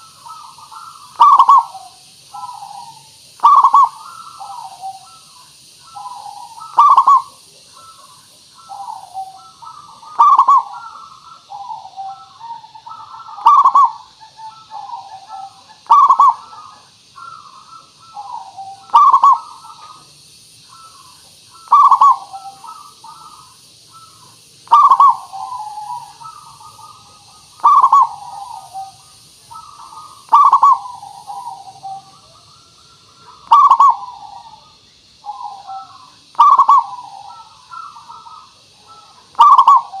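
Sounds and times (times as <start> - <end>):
dove cooing: 0.0 - 40.0.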